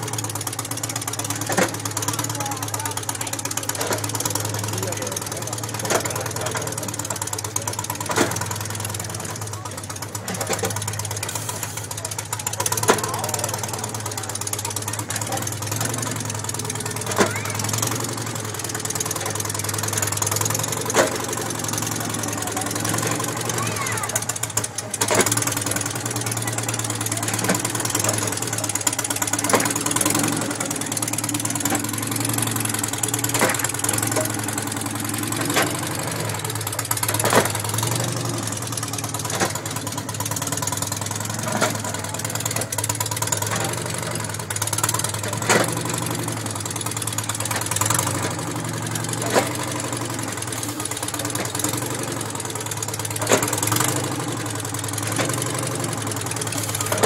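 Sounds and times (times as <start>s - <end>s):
engine running at low speed: 0.0s - 57.0s
mechanical legs clanking: 0.0s - 57.0s.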